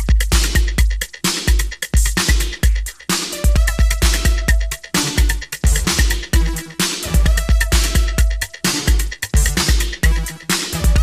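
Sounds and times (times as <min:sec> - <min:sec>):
electronic music with driving beat: 0:00.0 - 0:11.0.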